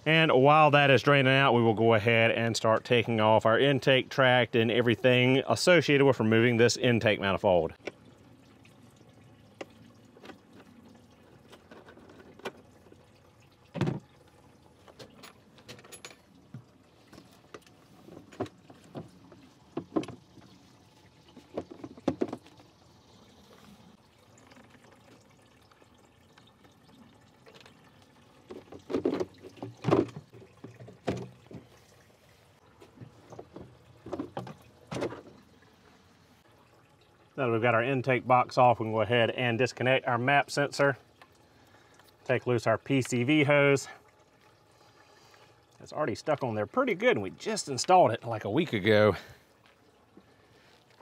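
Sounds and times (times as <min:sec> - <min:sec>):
coolant trickling: 0:00.0 - 0:51.0.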